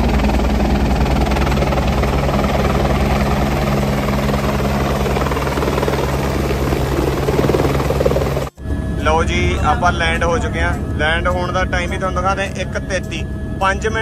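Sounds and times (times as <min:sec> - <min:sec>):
helicopter rotor beating: 0:00.0 - 0:14.0
low engine drone: 0:00.0 - 0:14.0.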